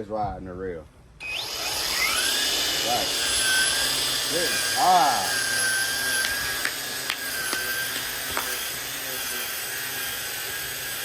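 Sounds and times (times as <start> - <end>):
string trimmer running: 1.2 - 11.0.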